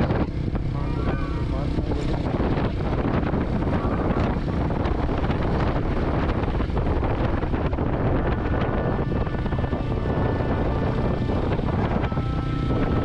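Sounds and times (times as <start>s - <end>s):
motorcycle engine and road noise: 0.0s - 13.0s
wind rushing over microphone: 0.0s - 13.0s.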